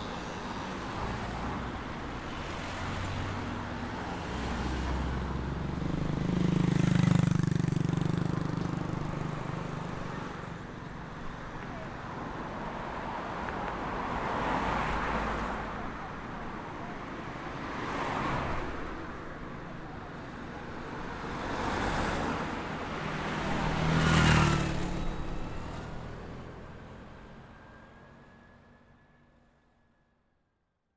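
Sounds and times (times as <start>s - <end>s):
vehicles passing by: 0.0s - 28.5s.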